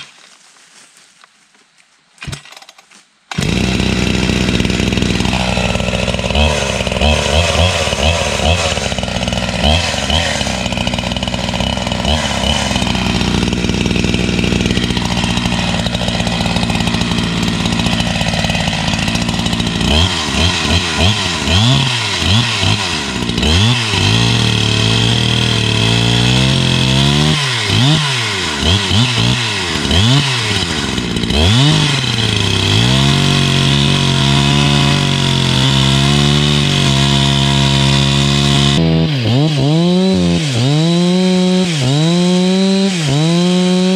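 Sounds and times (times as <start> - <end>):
chainsaw engine revving: 3.3 - 43.9.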